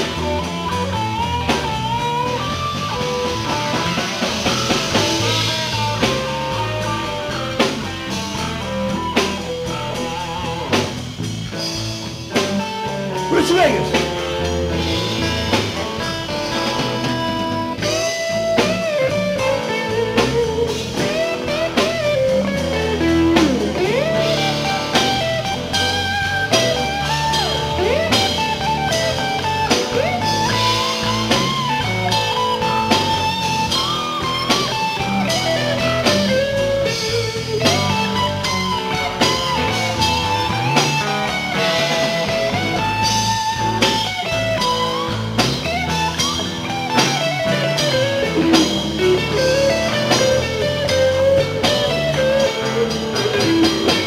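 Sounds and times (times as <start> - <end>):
drum kit: 0.0 - 54.0
electric guitar with string bends: 0.0 - 54.0.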